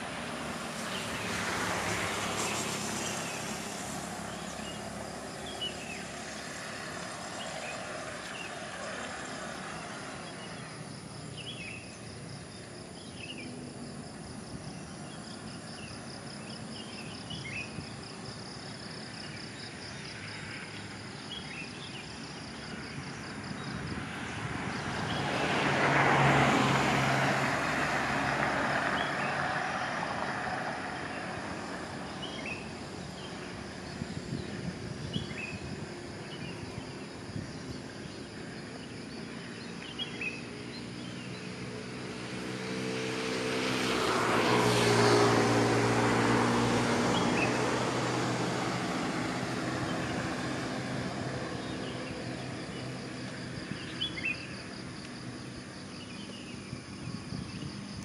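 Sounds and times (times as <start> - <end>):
engine passing by: 0.0 - 58.0
outdoor background noise: 0.0 - 58.0.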